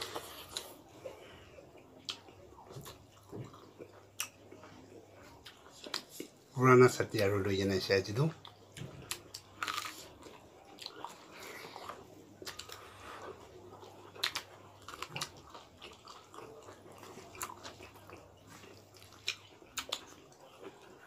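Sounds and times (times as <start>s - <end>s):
chewing and wet mouth smacks: 1.7s - 6.4s, 8.4s - 21.0s.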